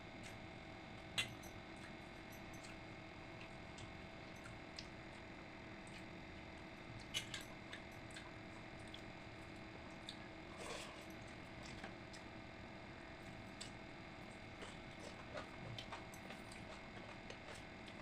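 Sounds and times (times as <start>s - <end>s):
steady low hum: 0.0s - 18.0s
soft wet eating squishes: 1.1s - 18.0s.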